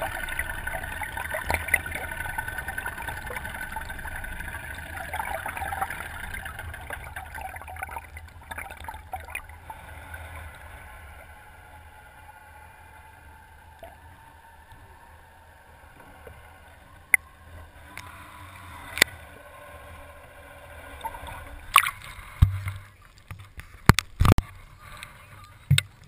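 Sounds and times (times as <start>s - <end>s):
boat motor humming: 0.0s - 26.0s
water gurgling: 0.0s - 26.0s.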